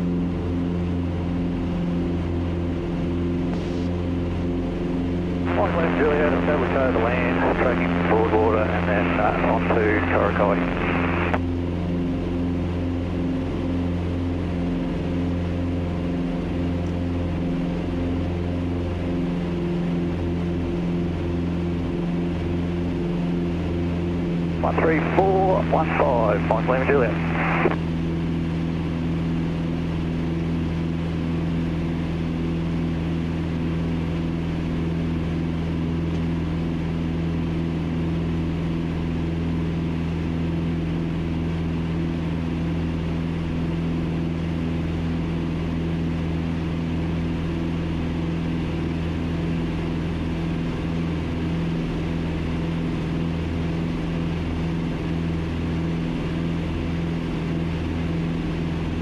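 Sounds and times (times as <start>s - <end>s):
aircraft engines droning in cabin: 0.0s - 59.0s.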